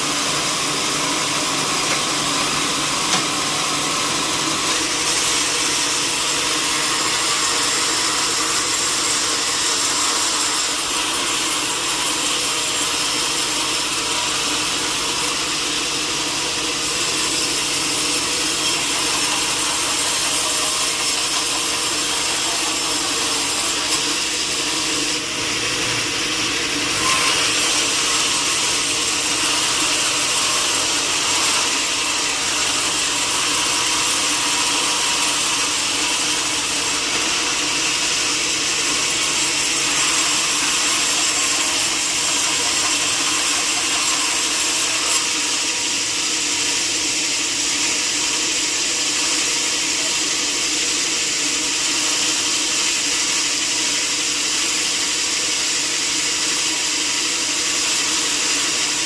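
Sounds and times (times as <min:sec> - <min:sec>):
saw blade cutting wood: 0:00.0 - 0:59.0.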